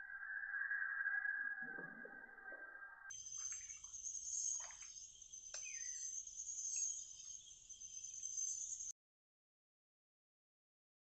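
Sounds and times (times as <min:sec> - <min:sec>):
insects chirping: 0:00.0 - 0:08.9.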